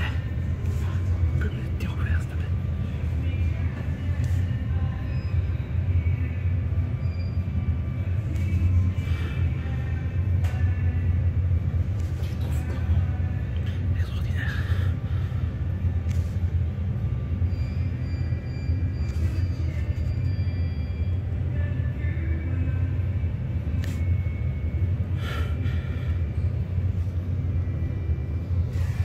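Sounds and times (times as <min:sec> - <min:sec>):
elevator low rumble: 0:00.0 - 0:29.0.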